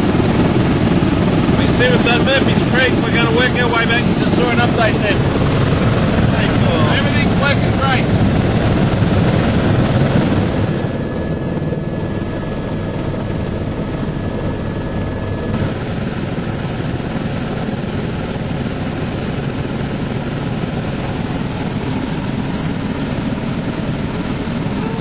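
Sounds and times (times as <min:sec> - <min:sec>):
small aircraft cabin drone: 0:00.0 - 0:25.0.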